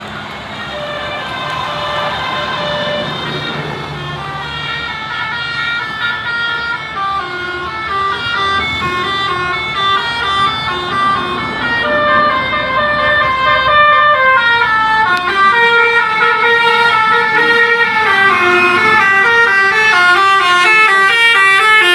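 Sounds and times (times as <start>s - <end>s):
bus musical horn playing a tune: 0.0s - 21.9s.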